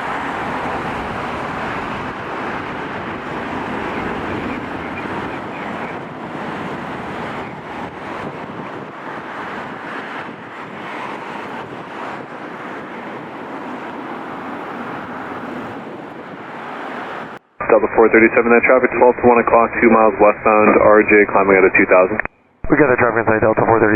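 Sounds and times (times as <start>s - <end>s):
jet engine and airflow rush: 0.0s - 23.9s.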